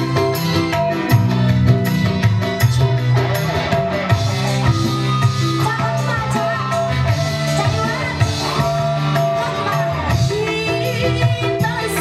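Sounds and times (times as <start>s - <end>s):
bass line: 0.0s - 12.0s
drum beat: 0.0s - 12.0s
electronic keyboard: 0.0s - 12.0s.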